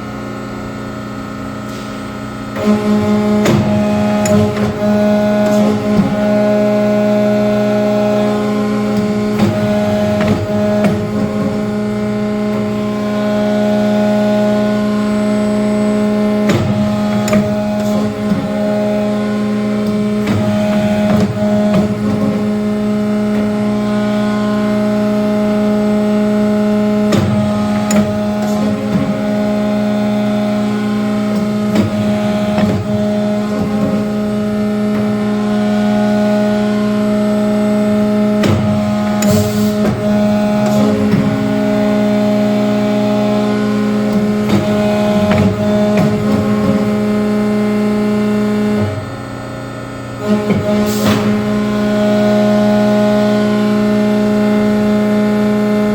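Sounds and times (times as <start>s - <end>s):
hydraulic power unit hum: 0.0s - 55.9s
machine clicks and clunks: 1.7s - 55.9s.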